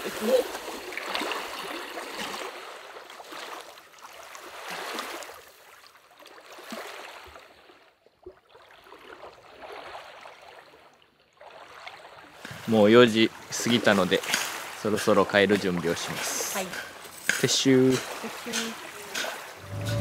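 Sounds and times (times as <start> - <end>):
lake waves lapping on gravel shore: 0.0 - 7.8, 11.5 - 20.0.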